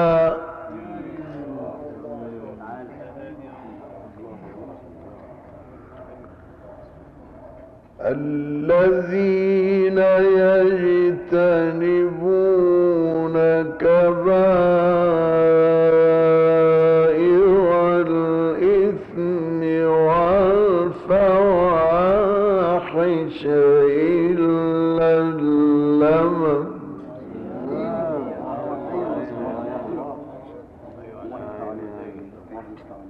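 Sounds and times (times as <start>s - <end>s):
man reciting melodically: 0.0s - 4.6s, 8.0s - 33.0s.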